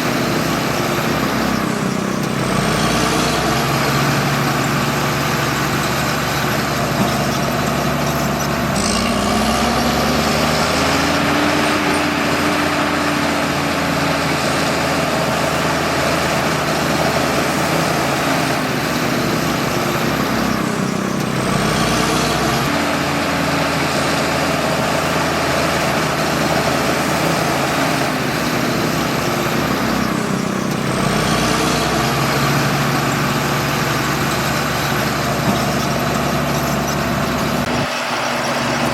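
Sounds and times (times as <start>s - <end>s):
bulldozer diesel engine running hard: 0.0s - 38.9s.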